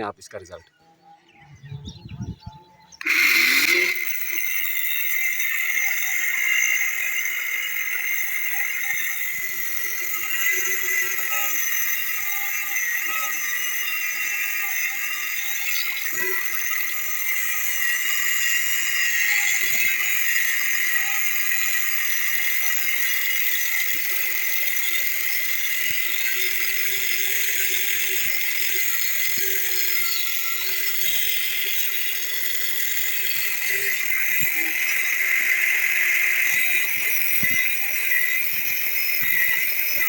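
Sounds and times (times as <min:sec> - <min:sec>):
angle grinder cutting iron: 0:00.0 - 0:40.0.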